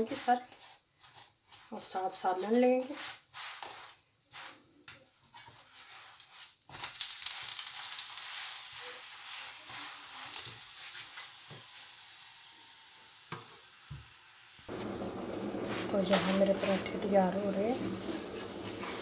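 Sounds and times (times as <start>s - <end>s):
flatbread sizzling in hot oil: 0.0s - 19.0s.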